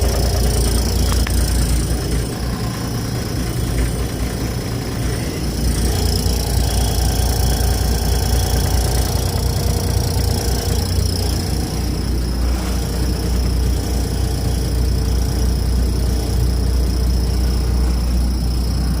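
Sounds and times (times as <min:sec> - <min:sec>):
steady high whine: 0:00.0 - 0:19.0
truck engine idling: 0:00.0 - 0:19.0.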